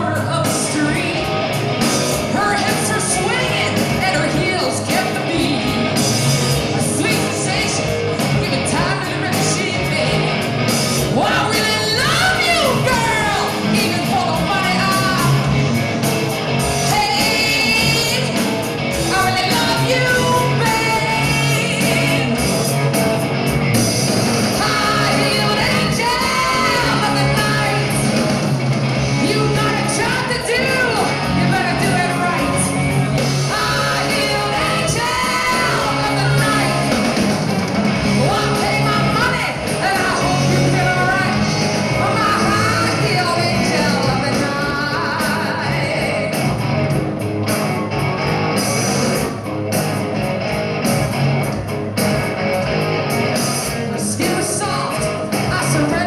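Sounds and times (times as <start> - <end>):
woman singing lead: 0.0 - 15.8, 16.7 - 22.9, 24.5 - 28.3, 29.1 - 46.6, 53.5 - 56.0
bass guitar: 0.0 - 56.0
drum kit: 0.0 - 56.0
electric guitar: 0.0 - 56.0.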